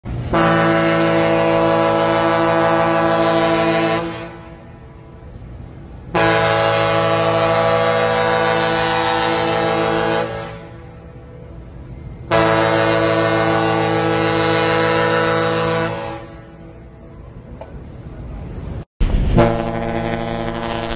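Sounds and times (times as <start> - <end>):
ship horn blasts: 0.1 - 20.9.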